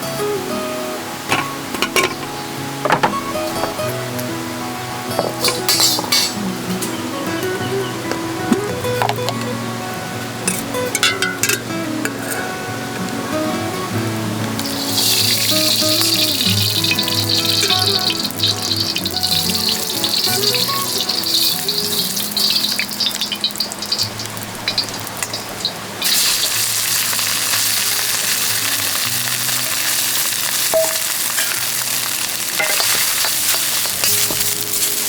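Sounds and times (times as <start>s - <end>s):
soft background music: 0.0s - 24.7s, 27.1s - 35.0s
crackling hiss: 0.0s - 35.0s.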